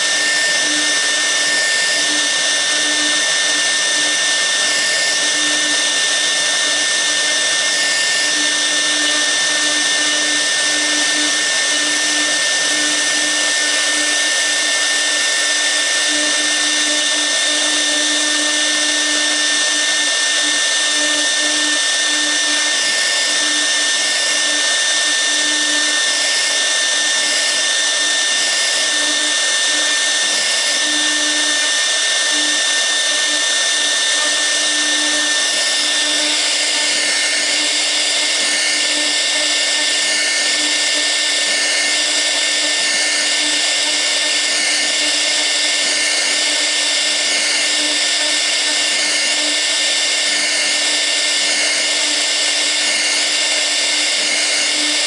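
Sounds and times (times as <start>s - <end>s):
router spindle whining while carving: 0.0s - 55.0s.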